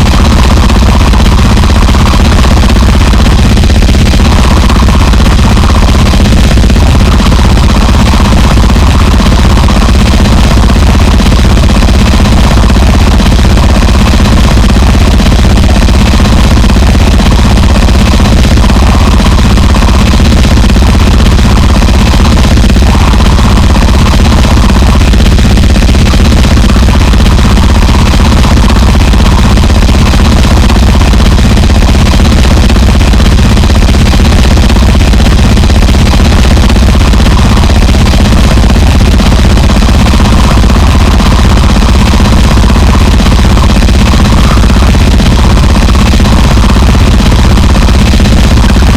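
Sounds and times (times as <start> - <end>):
distorted harsh noise: 0.0 - 48.9.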